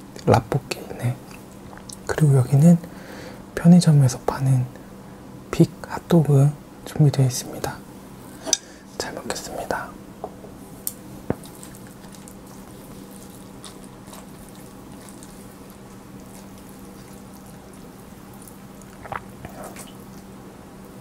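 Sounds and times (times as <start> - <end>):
soft eating noise: 0.0 - 3.0, 7.0 - 21.0
low electrical hum: 0.0 - 21.0.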